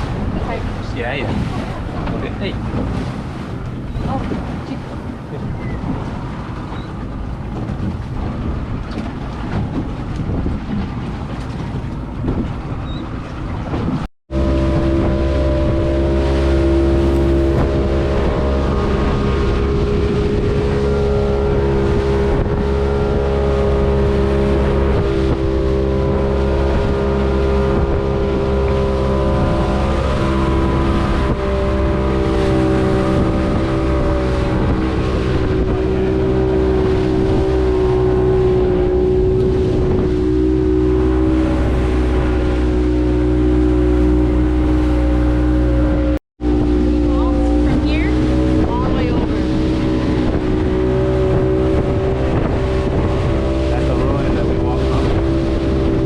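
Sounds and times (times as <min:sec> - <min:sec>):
motorboat engine running: 0:00.0 - 0:56.0
water: 0:00.0 - 0:56.0
wind: 0:00.0 - 0:56.0.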